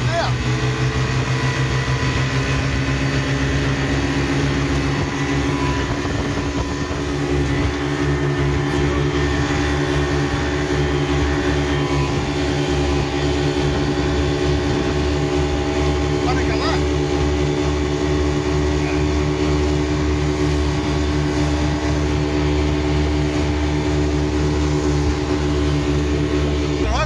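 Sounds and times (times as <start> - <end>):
outboard motors running: 0.0 - 27.0
rush of boat wake: 0.0 - 27.0
wind: 0.0 - 27.0.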